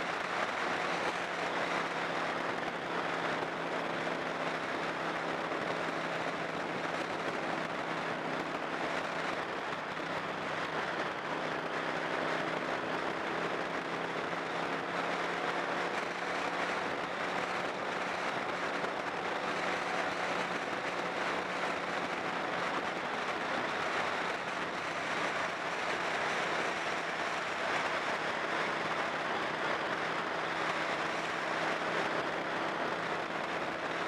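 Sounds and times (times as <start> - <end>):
car engine hum: 0.0 - 34.0.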